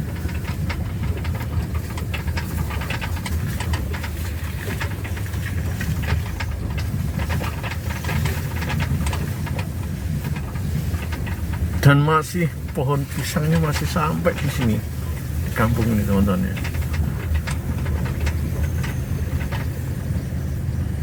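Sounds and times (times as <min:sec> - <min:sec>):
cab rattles and knocks: 0:00.0 - 0:21.0
engine and road rumble: 0:00.0 - 0:21.0.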